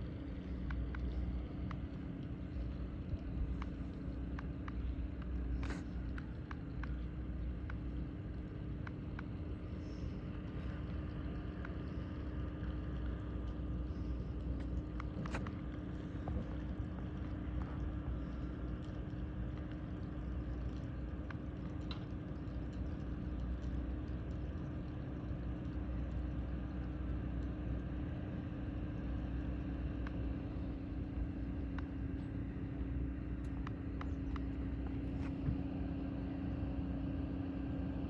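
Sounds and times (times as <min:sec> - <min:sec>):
faint clicks: 0:00.0 - 0:36.3
ferry engine drone: 0:00.0 - 0:38.0.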